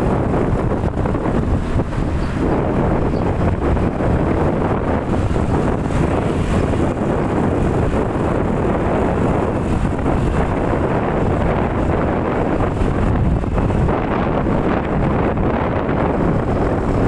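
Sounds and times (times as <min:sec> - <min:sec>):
motorcycle engine: 0:00.0 - 0:17.0
road rumble: 0:00.0 - 0:17.0
wind buffeting microphone: 0:00.0 - 0:17.0.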